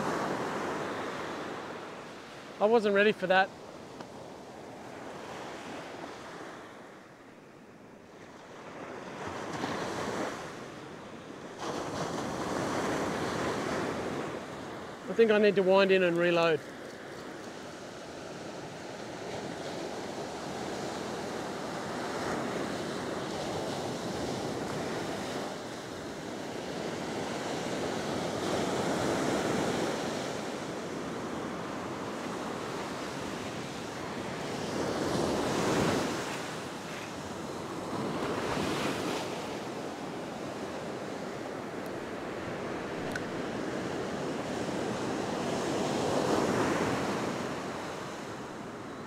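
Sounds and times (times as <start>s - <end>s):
ocean surf breaking on beach: 0.0s - 7.3s, 8.1s - 49.0s.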